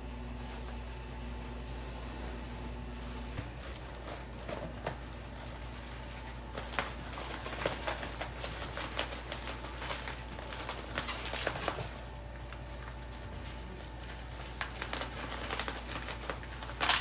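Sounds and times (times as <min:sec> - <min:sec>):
cardboard and plastic crinkling: 0:03.0 - 0:17.0.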